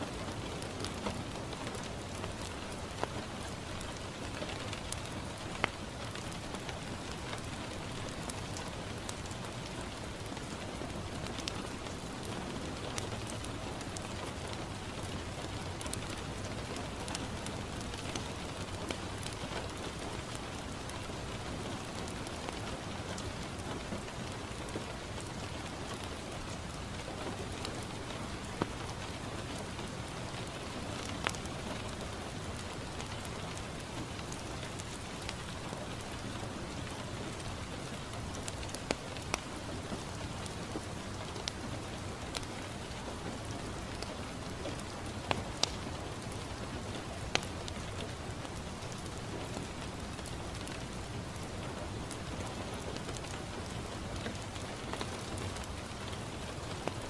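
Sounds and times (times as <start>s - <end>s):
rain falling on a window: 0.0s - 57.0s
wood fire crackling pops: 0.4s - 23.5s, 24.2s - 57.0s.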